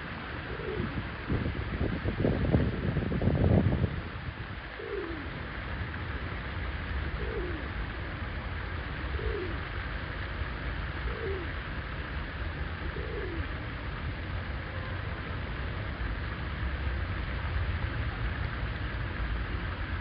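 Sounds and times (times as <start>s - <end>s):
fountain water rushing: 0.0s - 20.0s.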